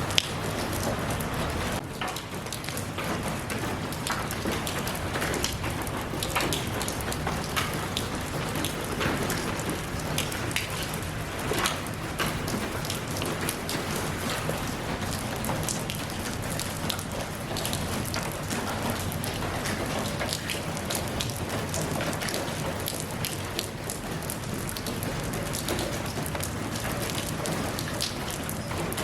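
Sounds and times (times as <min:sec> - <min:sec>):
rain pattering and splashing: 0:00.0 - 0:29.0.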